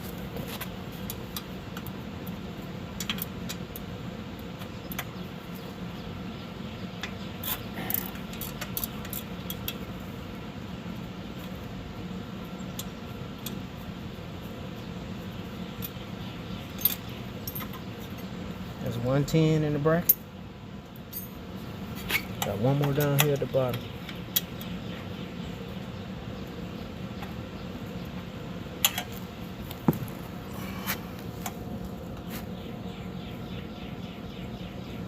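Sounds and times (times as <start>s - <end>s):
fan hum: 0.0s - 35.0s.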